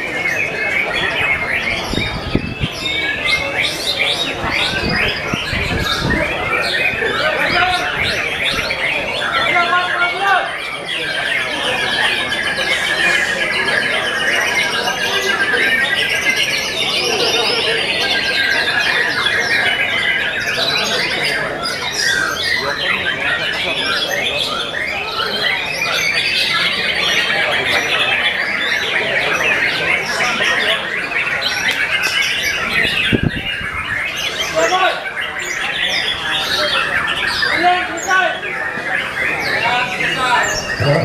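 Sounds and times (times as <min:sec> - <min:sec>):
chorus of birds singing: 0:00.0 - 0:41.0.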